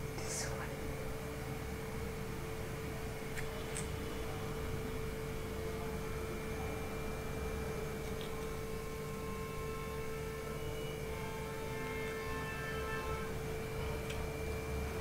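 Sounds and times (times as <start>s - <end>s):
constant mid-pitched hum: 0.0s - 15.0s
low rumbling room noise: 0.0s - 15.0s.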